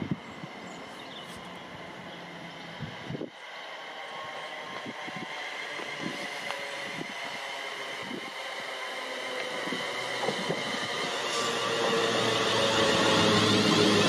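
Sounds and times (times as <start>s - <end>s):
electric train approaching: 0.0s - 14.0s.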